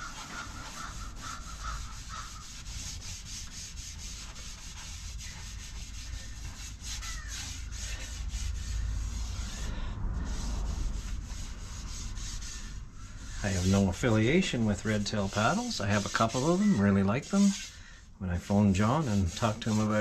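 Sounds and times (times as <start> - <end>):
cloth rag rubbing wood: 0.0 - 20.0.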